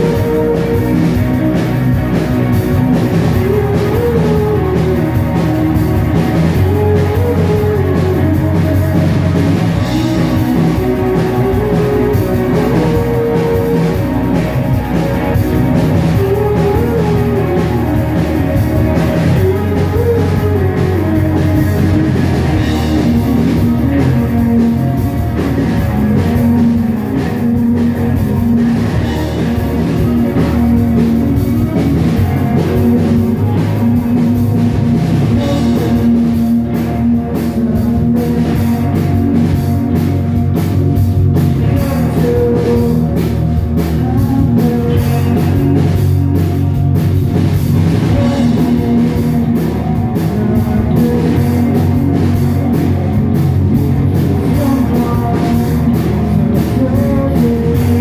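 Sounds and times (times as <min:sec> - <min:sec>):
drum kit: 0:00.0 - 0:58.0
guitars: 0:00.0 - 0:58.0
rock band playing live: 0:00.0 - 0:58.0.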